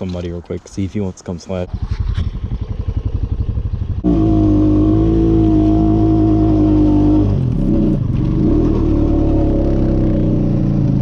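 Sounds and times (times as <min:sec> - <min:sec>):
atv engine revving: 0:01.7 - 0:11.0.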